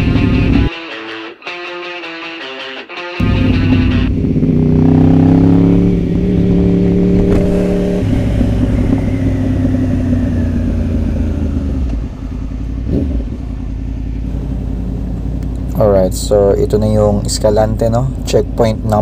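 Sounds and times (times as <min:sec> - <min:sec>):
motorcycle engine running: 0:00.0 - 0:00.7, 0:03.2 - 0:19.0.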